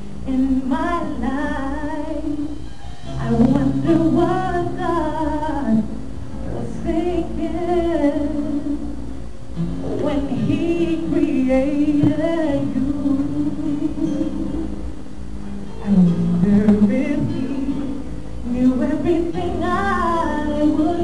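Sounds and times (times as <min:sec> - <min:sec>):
person singing with vibrato: 0:00.0 - 0:09.1, 0:09.9 - 0:15.0, 0:15.8 - 0:21.0.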